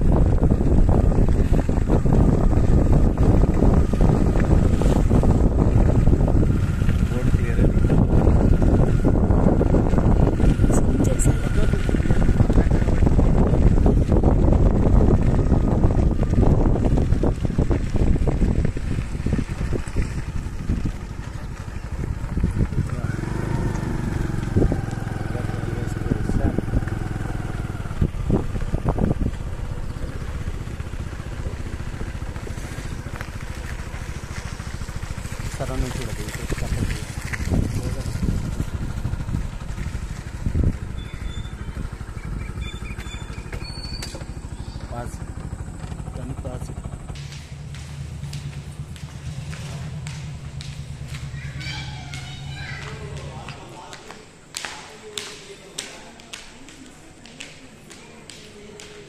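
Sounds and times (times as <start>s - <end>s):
wind buffeting microphone: 0.0s - 53.7s
motorcycle engine running: 0.0s - 54.6s
moving vehicle rumble: 0.0s - 59.0s.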